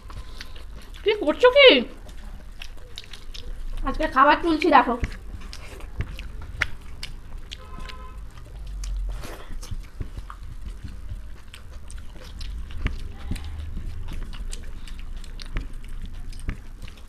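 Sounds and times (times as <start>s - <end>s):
wet mouth clicks and smacks: 0.0s - 1.2s, 2.0s - 17.0s
chewing and biting food: 0.0s - 17.0s.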